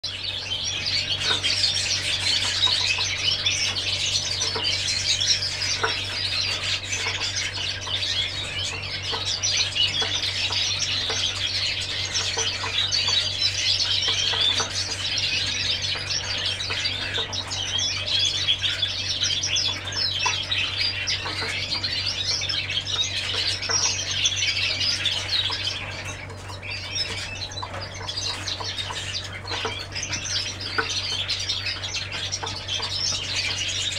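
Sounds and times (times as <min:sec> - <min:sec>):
canaries singing: 0:00.0 - 0:33.9
steady low hum: 0:00.0 - 0:33.9.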